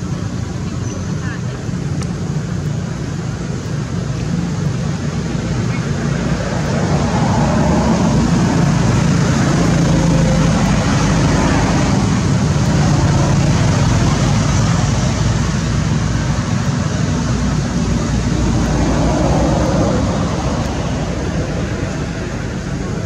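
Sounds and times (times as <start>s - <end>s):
low engine hum: 0.0s - 23.0s
traffic hiss: 0.0s - 23.0s.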